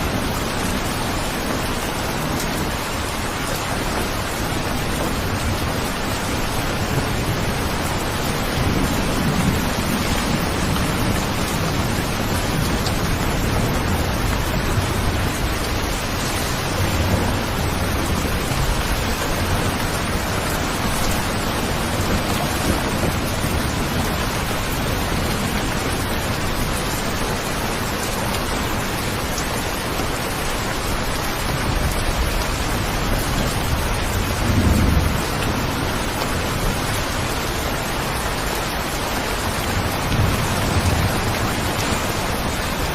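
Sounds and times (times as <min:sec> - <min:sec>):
heavy rain: 0:00.0 - 0:42.9
thunder rumbling: 0:00.0 - 0:42.9.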